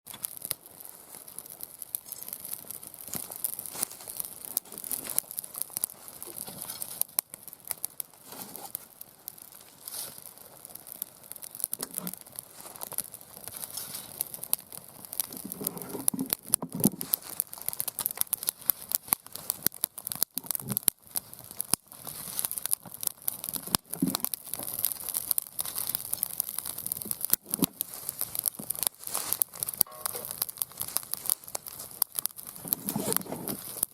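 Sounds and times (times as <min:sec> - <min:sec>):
wood fire crackling and popping: 0:00.1 - 0:33.9.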